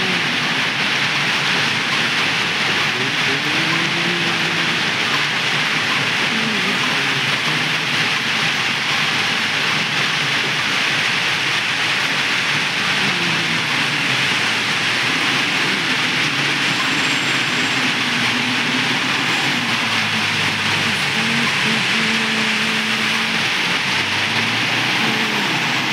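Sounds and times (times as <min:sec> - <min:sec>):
diesel engines running: 0:00.0 - 0:25.9
steady loud hiss: 0:00.0 - 0:25.9.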